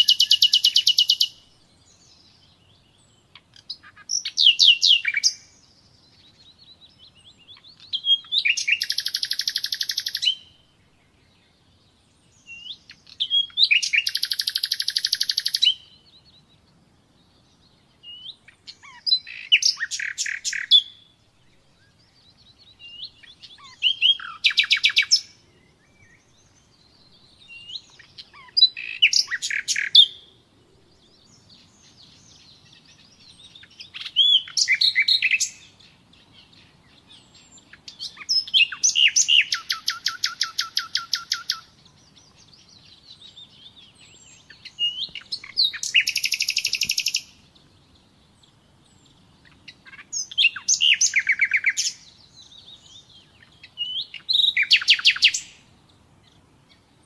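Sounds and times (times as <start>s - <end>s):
nightingale singing: 0.0s - 57.0s.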